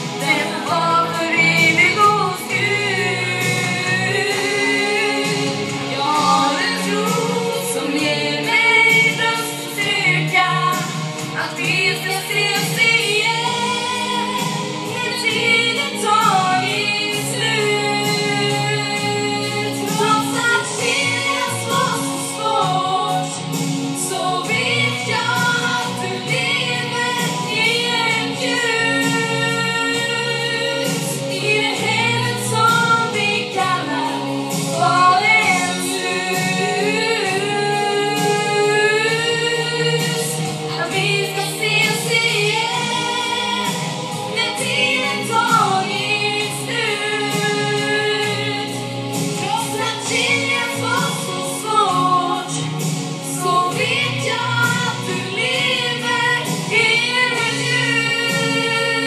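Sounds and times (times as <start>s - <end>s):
woman singing into microphone: 0.0s - 59.0s.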